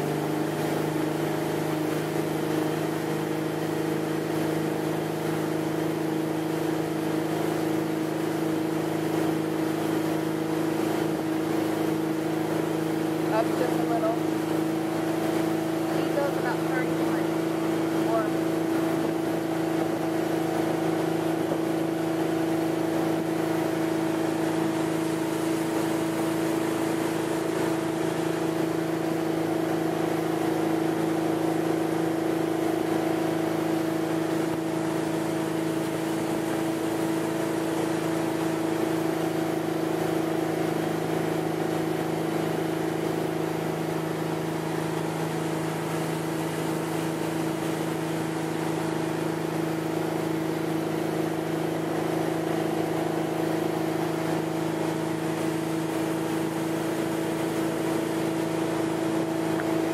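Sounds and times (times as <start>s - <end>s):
boat engine droning: 0.0s - 59.9s
rush of water: 0.0s - 59.9s.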